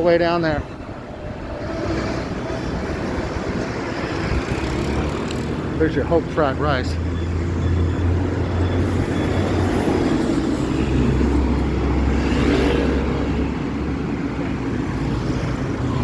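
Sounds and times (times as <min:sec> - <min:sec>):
tyre and road noise: 0:00.0 - 0:16.0
scooters and motorbikes passing: 0:00.9 - 0:16.0.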